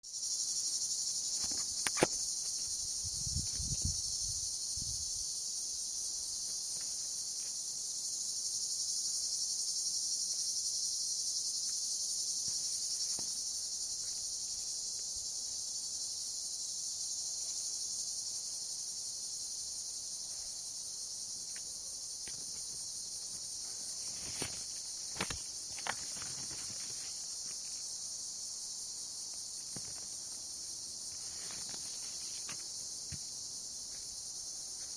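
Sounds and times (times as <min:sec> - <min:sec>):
insects chorus: 0:00.0 - 0:34.9.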